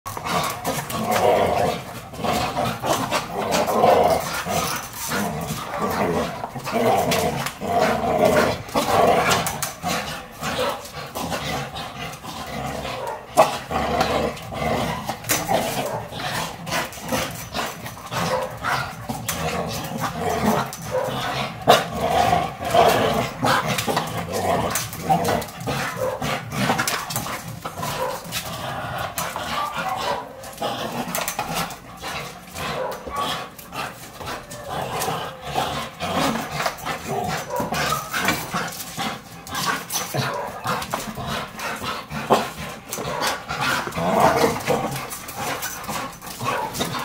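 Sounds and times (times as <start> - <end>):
dogs growling: 0.1 - 47.0.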